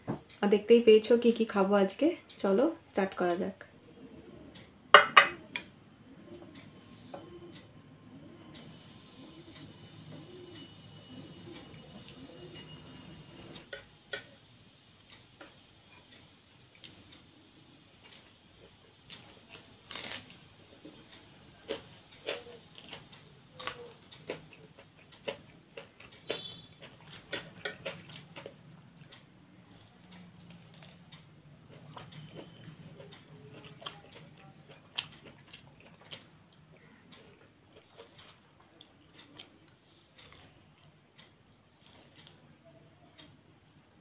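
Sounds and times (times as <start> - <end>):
soft chewing: 5.4 - 44.0.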